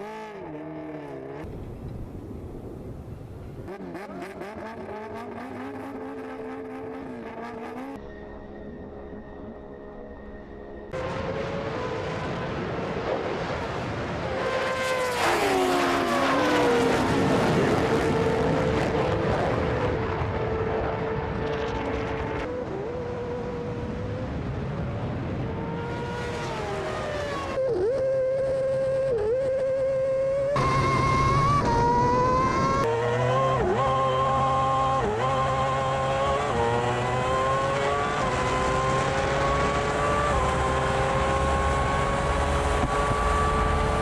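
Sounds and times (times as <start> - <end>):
vehicle engines revving: 3.3 - 8.0, 10.9 - 44.0.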